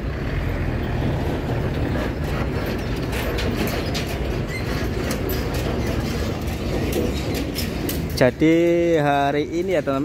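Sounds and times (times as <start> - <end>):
truck diesel engine rumble: 0.0 - 10.0
truck body rattling: 1.2 - 10.0.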